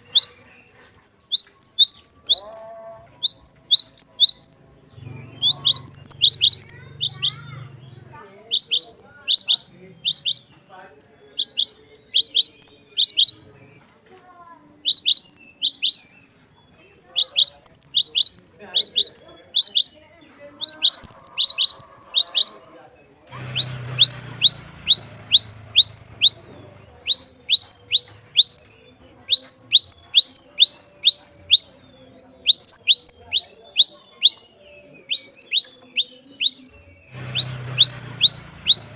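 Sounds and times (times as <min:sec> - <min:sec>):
bird singing high clear notes: 0:00.0 - 0:00.7, 0:01.3 - 0:13.5, 0:14.5 - 0:20.0, 0:20.6 - 0:22.8, 0:23.4 - 0:38.9.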